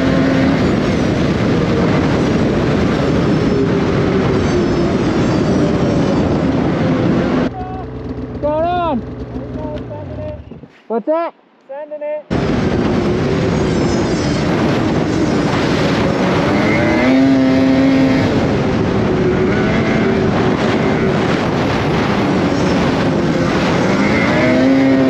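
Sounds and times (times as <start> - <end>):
snowmobile engine revving: 0.0 - 10.4, 12.3 - 25.0
steady rushing noise: 0.0 - 25.0.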